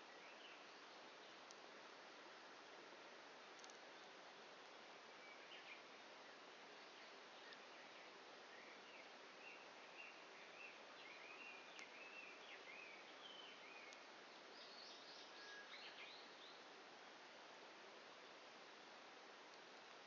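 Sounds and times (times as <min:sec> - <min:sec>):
outdoor hiss: 0:00.0 - 0:20.0.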